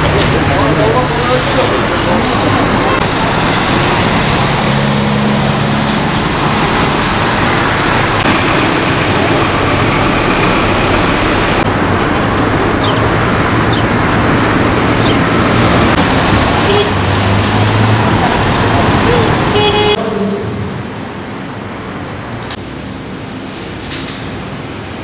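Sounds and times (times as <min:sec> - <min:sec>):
bus engines running: 0:00.0 - 0:25.0
street traffic noise: 0:00.0 - 0:25.0.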